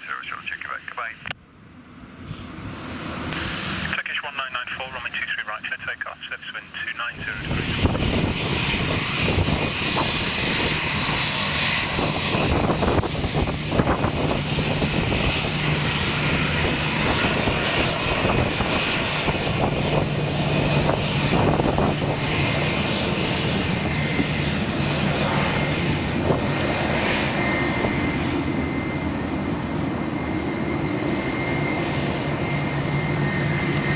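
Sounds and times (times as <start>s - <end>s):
jet engines running: 0.0s - 33.9s
high whine: 3.1s - 33.9s.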